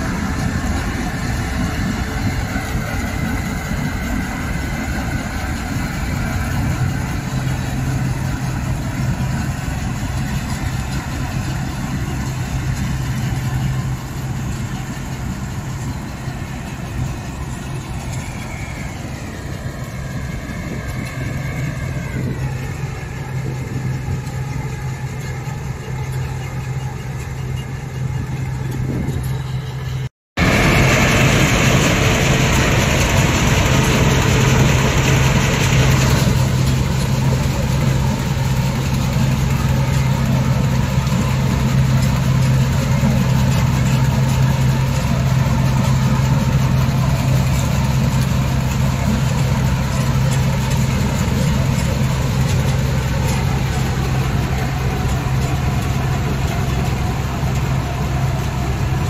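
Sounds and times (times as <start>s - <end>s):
combine harvester machinery hum: 0.0s - 59.0s.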